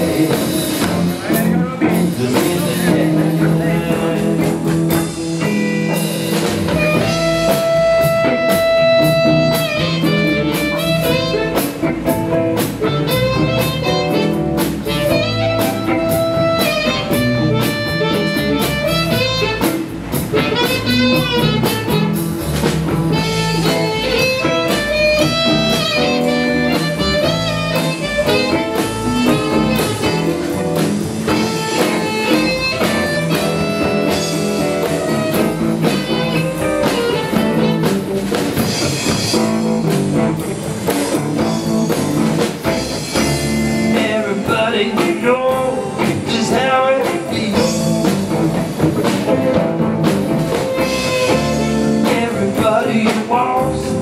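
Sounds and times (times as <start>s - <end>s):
blues band playing: 0.0s - 54.0s.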